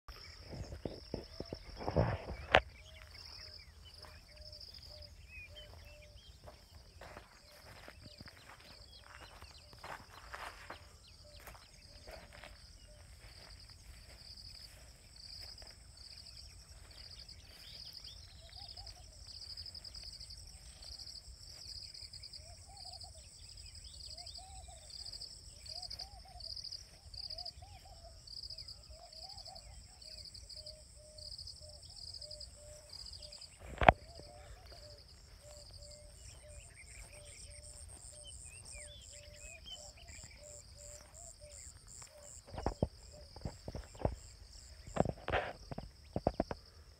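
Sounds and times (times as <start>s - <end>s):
high insect trill: 0.1s - 46.9s
insects chirping: 0.1s - 46.9s.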